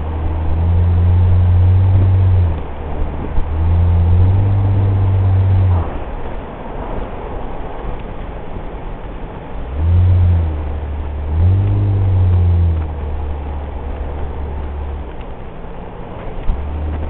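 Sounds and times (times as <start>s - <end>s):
car engine and road drone: 0.0s - 17.0s.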